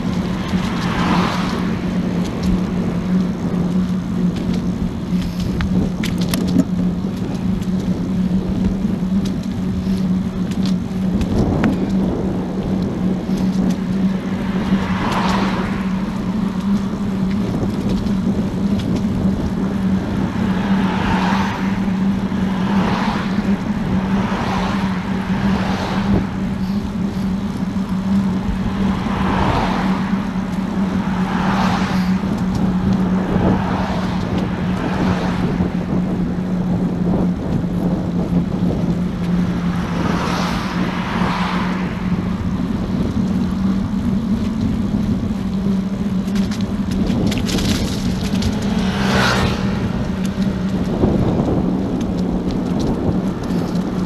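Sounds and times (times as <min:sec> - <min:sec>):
cars passing: 0:00.0 - 0:54.0
steady low hum: 0:00.0 - 0:54.0
wind buffeting microphone: 0:00.0 - 0:54.0.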